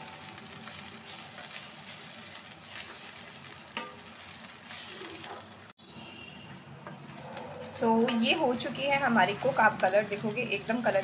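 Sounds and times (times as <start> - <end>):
wooden spatula scraping a pan: 0.0 - 5.6, 6.8 - 11.0
vegetables sizzling in oil: 0.0 - 5.8, 6.8 - 11.0.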